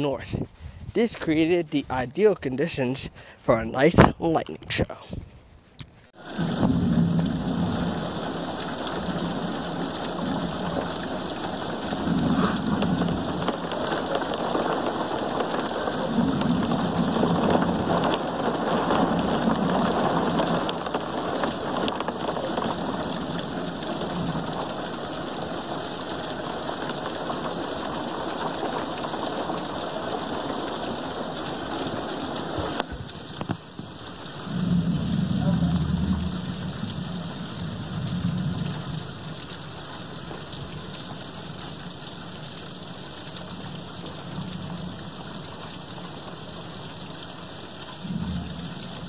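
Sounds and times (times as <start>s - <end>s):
steady rain falling: 0.0s - 49.0s
low thunder rumbling: 6.2s - 49.0s.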